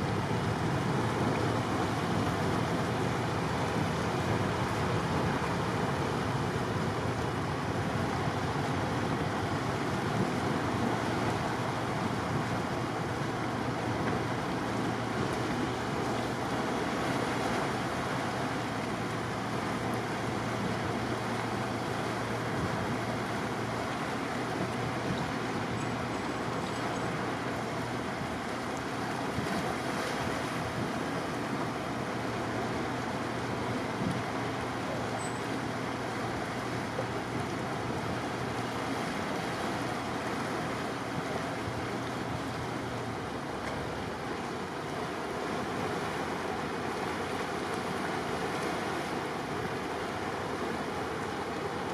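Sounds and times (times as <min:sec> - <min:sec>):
wind and sea rushing: 0:00.0 - 0:51.9.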